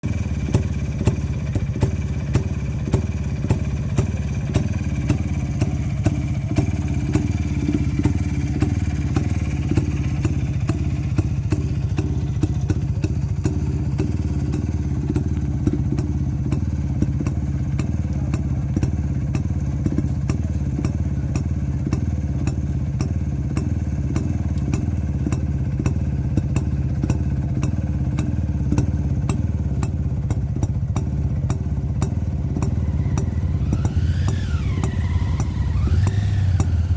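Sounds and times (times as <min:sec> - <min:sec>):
two-stroke motorcycle engine running: 0:00.0 - 0:36.9.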